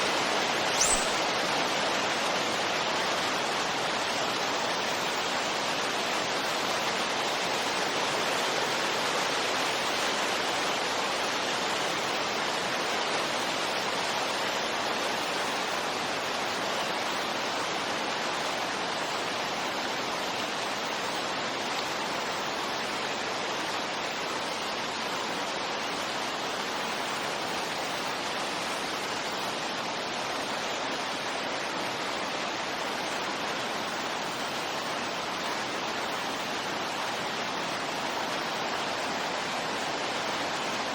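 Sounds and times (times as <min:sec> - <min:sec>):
steady wind rushing hiss: 0:00.0 - 0:40.9.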